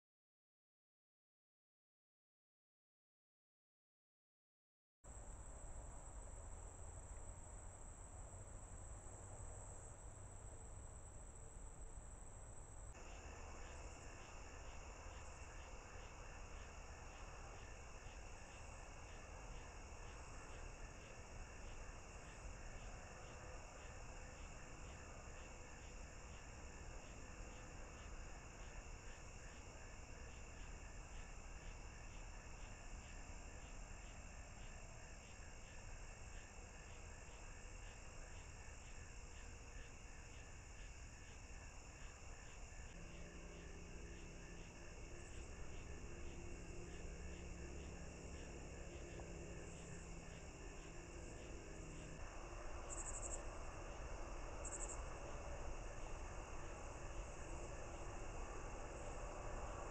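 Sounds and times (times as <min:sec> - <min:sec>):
insects chirring: 0:05.1 - 0:59.9
repeating insect chirp: 0:05.1 - 0:59.9.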